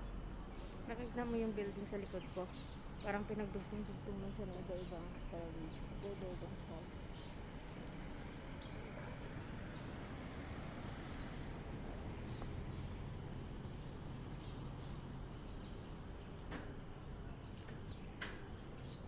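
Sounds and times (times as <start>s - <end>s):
low background noise: 0.0s - 19.0s
small birds chirping: 0.0s - 19.0s.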